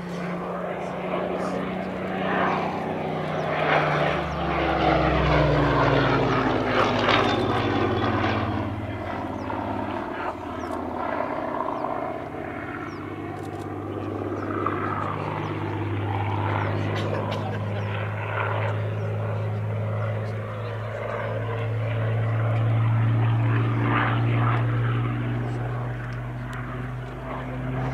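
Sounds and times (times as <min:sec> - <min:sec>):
propeller plane engine overhead: 0:00.0 - 0:27.9.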